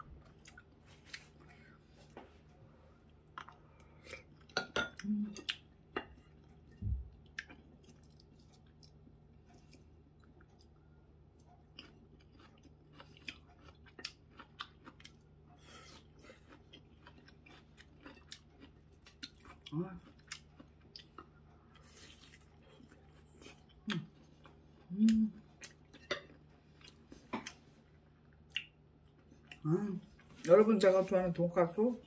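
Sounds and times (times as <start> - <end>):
person chewing food: 0.0 - 30.4
faint low hum: 0.0 - 32.0.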